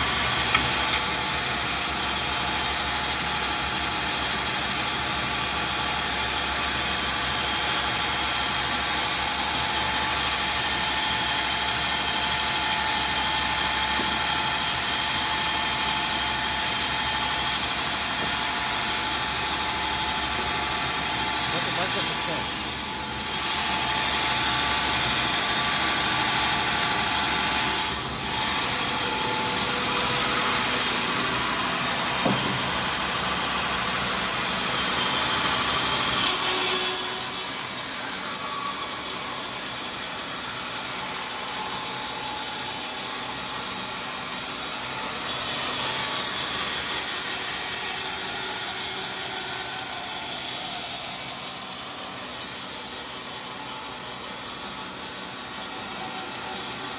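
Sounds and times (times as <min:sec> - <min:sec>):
band saw cutting wood: 0:00.0 - 0:56.9.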